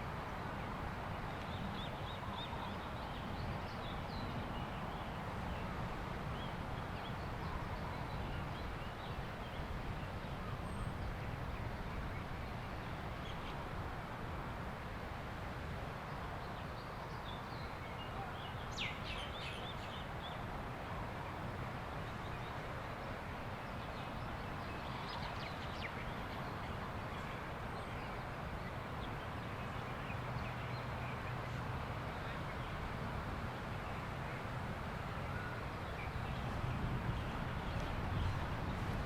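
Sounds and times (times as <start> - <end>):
beach surf: 0.0 - 39.0
wind: 0.0 - 39.0.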